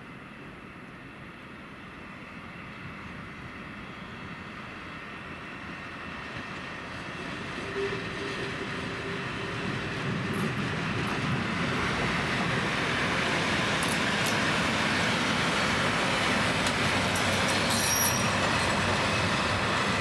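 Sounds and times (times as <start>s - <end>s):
diesel locomotive engine and wheels: 0.0s - 20.0s.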